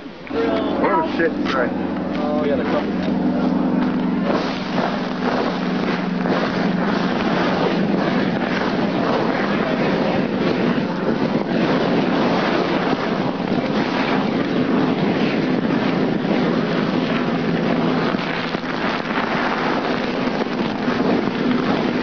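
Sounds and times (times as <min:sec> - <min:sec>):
loud rushing combustion: 0:00.0 - 0:22.0.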